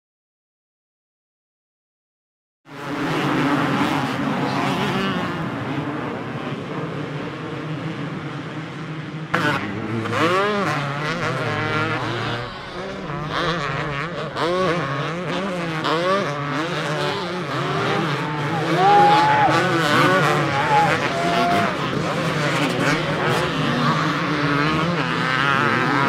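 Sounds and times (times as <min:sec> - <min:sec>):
motocross bike engines revving: 0:02.7 - 0:26.0.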